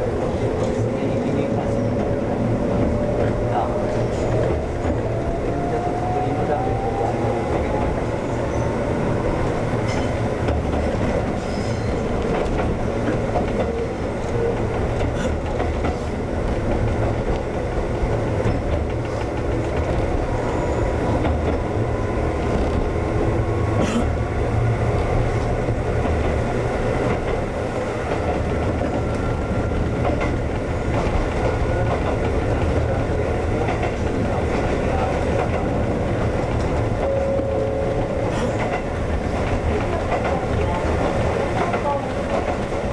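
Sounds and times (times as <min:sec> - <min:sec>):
electric train rumbling: 0:00.0 - 0:42.9.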